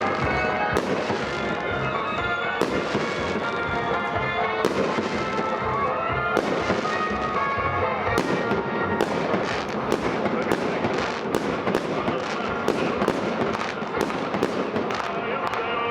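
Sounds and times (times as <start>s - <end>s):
fireworks bangs and crackles: 0.0s - 15.9s
music with held notes: 0.0s - 15.9s.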